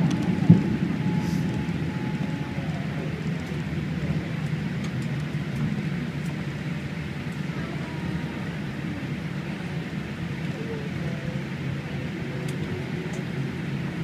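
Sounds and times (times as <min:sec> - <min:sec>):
airliner cabin low rumble: 0:00.0 - 0:14.0.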